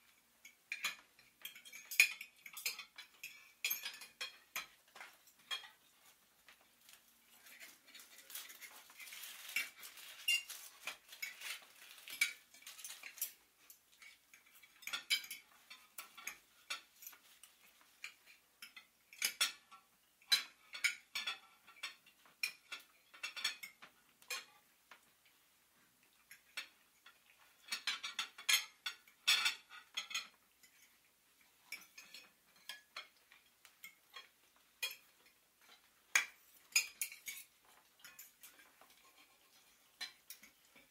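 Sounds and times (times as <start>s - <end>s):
cutlery and dishes clinking: 0.0s - 25.4s, 26.0s - 40.9s.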